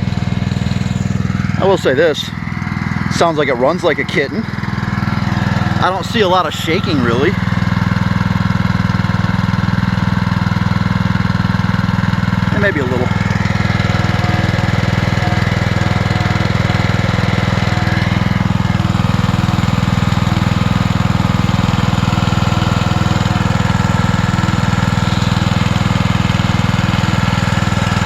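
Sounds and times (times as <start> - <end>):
pressure washer engine running: 0.0 - 28.0.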